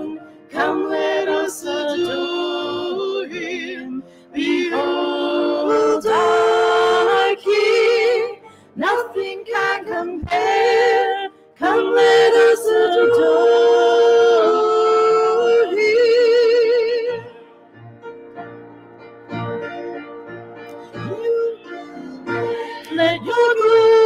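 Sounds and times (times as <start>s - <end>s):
voices singing worship song: 0.0s - 17.6s, 20.7s - 24.0s.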